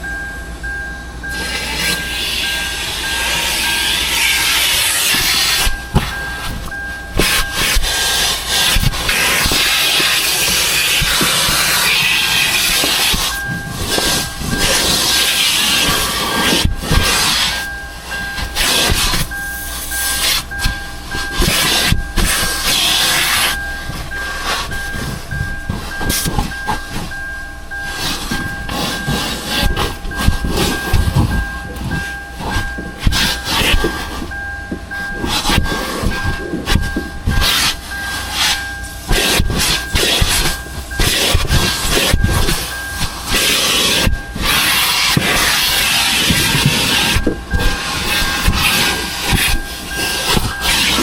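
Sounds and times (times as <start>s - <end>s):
vacuum high whine: 0.0s - 51.0s
vacuum hose hissing: 1.3s - 51.0s.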